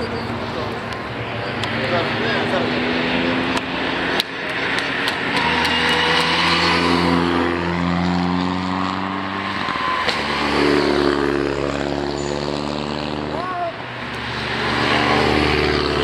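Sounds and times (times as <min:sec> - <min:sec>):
rally cars driving past: 0:00.0 - 0:16.0.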